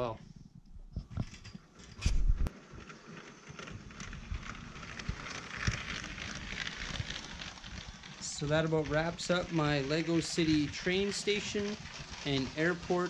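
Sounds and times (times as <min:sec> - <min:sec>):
toy train rattling on track: 0:01.3 - 0:13.0.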